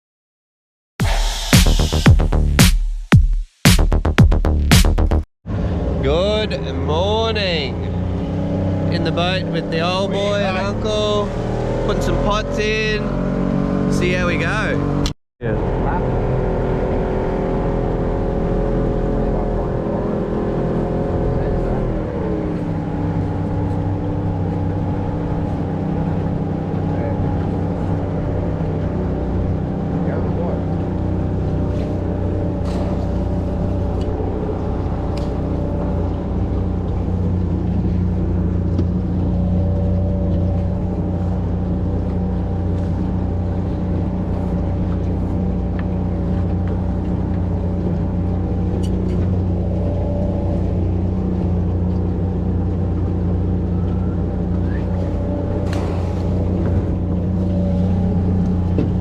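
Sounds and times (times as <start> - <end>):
outboard motor running: 5.5 - 59.0.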